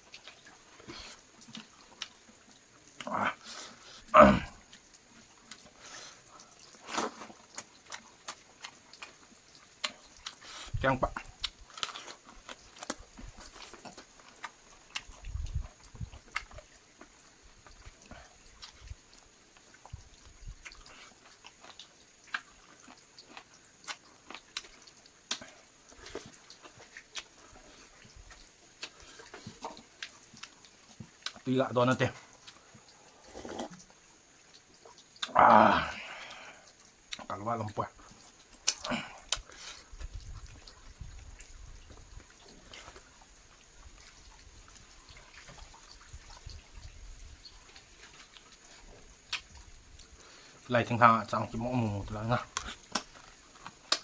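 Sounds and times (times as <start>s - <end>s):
person chewing food: 0.0s - 31.5s, 32.2s - 37.4s, 38.0s - 46.6s, 47.6s - 50.6s, 52.5s - 54.0s.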